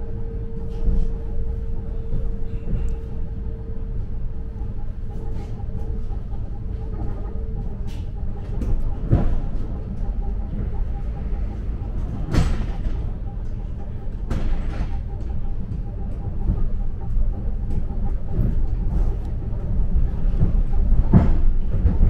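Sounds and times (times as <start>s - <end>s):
commuter train rumbling: 0.0s - 22.0s
steady hum: 0.0s - 22.0s.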